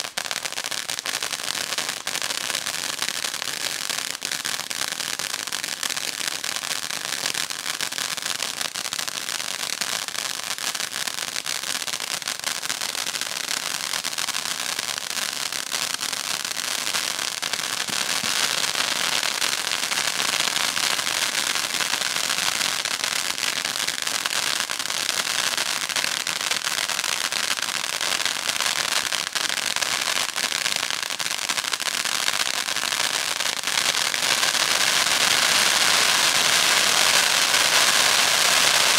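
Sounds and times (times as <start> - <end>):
firework fountain crackling: 0.0 - 38.9.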